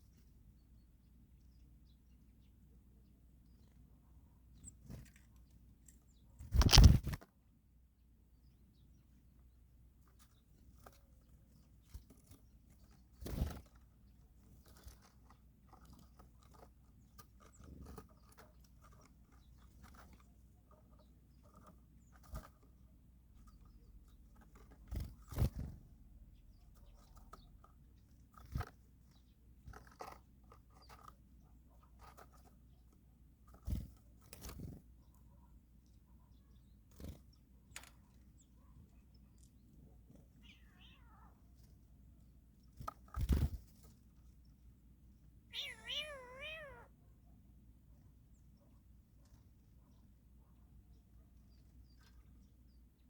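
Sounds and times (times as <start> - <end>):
birds pecking and cracking seeds: 0.0 - 53.0.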